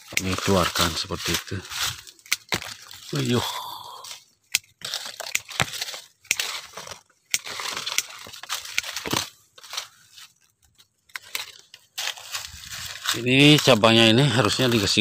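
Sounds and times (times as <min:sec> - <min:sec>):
pruning shears snipping twigs: 0:00.0 - 0:03.4, 0:04.0 - 0:15.0
leaves and twigs rustling: 0:00.0 - 0:15.0.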